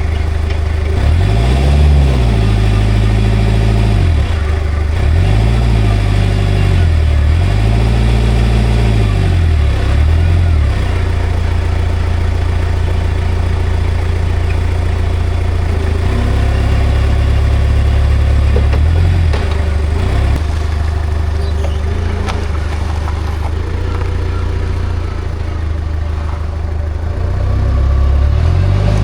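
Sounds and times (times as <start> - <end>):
forklift engine idling: 0.0 - 29.0.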